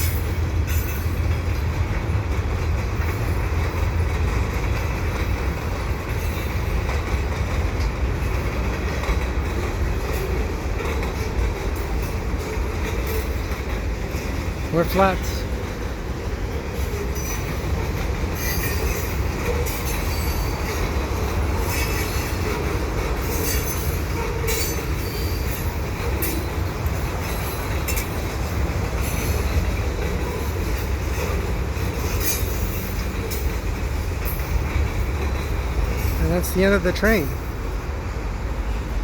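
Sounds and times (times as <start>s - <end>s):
freight cars rumbling on rails: 0.0s - 39.0s.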